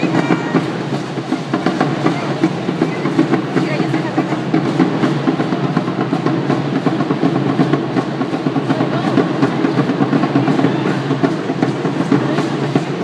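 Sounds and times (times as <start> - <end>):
fast busy drumming: 0.0 - 13.0.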